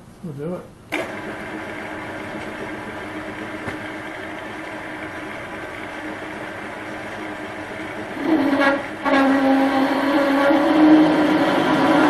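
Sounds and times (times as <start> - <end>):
metal lathe motor humming: 1.0 - 12.0.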